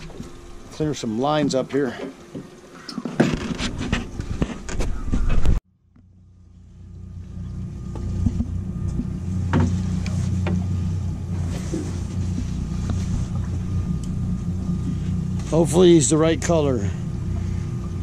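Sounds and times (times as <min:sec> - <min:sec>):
outboard engine idling: 0:00.0 - 0:03.3, 0:05.6 - 0:18.0.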